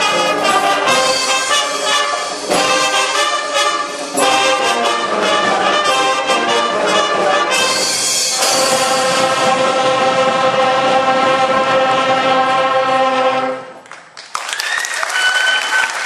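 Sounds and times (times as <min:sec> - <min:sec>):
marching band brass playing chords: 0:00.0 - 0:13.8.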